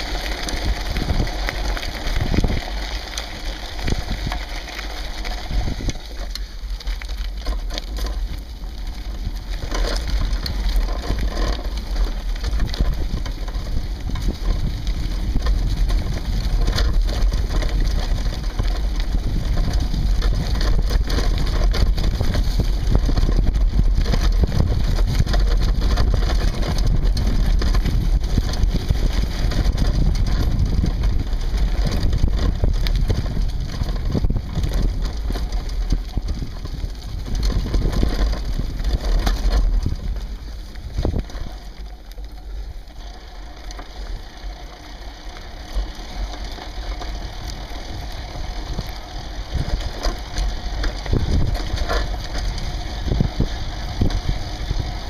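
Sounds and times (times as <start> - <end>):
bike rattling: 0.0 - 55.0
steady low rumble: 0.0 - 55.0
tyres crunching on gravel: 0.0 - 55.0.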